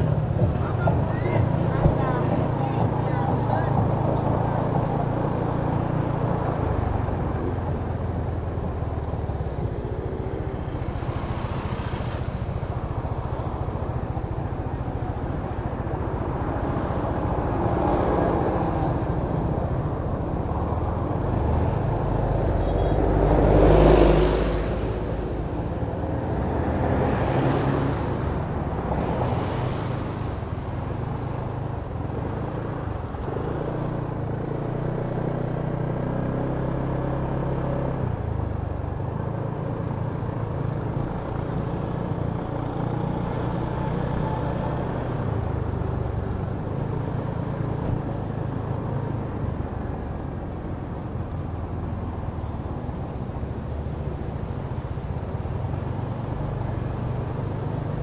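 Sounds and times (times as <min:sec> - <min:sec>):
traffic noise: 0:00.0 - 0:58.0.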